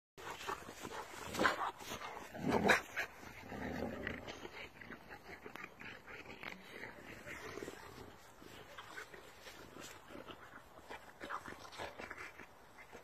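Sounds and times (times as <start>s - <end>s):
dogs play-fighting vocalising: 0.2s - 13.0s.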